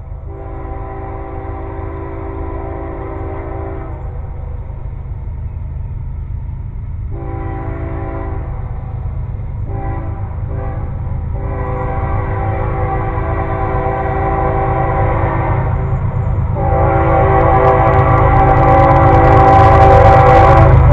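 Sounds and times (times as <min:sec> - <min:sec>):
train air horn blasts: 0:00.0 - 0:04.3, 0:07.1 - 0:08.9, 0:09.6 - 0:20.9
low rumble of train: 0:00.0 - 0:20.9.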